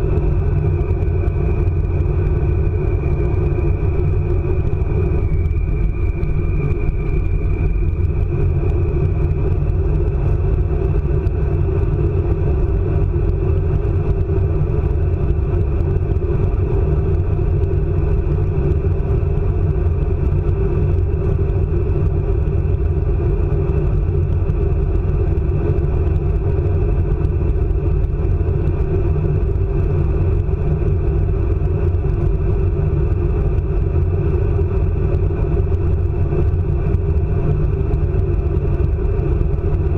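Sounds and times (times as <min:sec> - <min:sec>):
faint high whine: 0:00.0 - 0:39.9.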